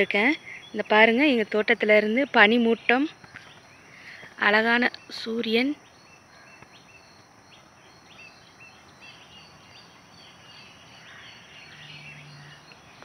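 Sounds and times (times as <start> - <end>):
distant birds chirping: 0.0 - 13.0
steady outdoor hiss: 0.0 - 13.0.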